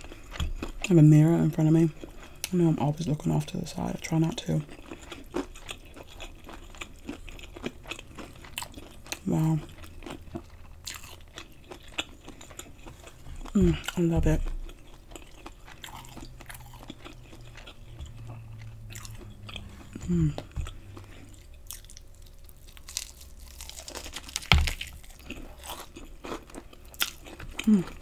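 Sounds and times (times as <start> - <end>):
chewing crunchy fried food: 0.0 - 28.0.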